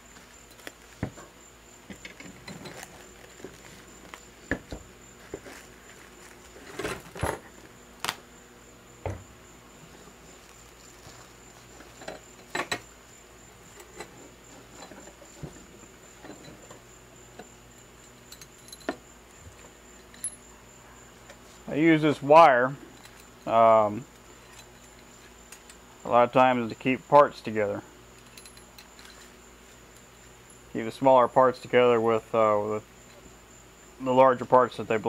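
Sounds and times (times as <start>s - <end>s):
high-pitched insect trill: 0.0s - 35.0s.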